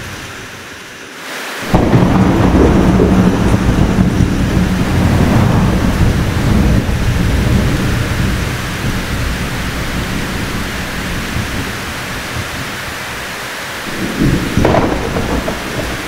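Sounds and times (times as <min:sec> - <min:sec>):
steady rain: 0:00.0 - 0:16.0
thunder rumbling: 0:01.6 - 0:16.0.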